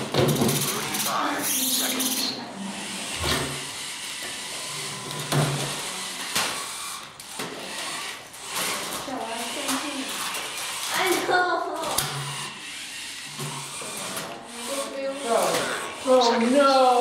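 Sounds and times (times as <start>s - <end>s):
robot electric motors whirring: 0.0s - 17.0s.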